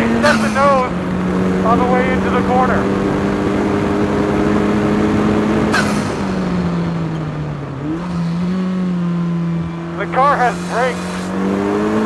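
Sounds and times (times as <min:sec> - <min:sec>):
turbocharged car engine: 0:00.0 - 0:12.0.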